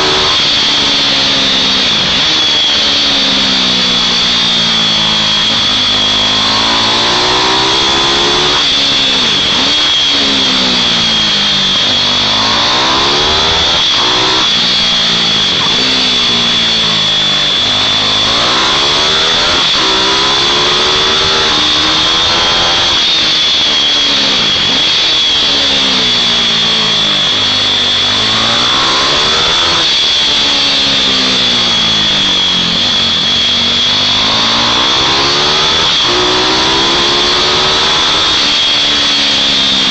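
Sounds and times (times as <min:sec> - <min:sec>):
high-pitched whine: 0:00.0 - 0:39.9
mini-bike engines revving: 0:00.0 - 0:39.9.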